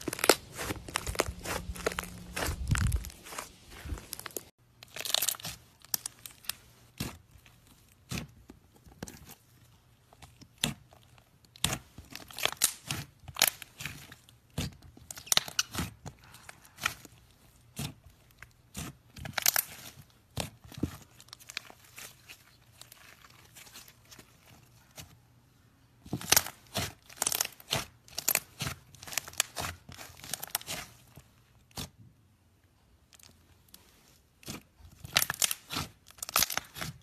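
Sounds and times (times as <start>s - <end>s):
slime crackling and popping: 0.0s - 9.4s, 10.2s - 23.9s, 26.1s - 31.0s, 34.4s - 37.0s.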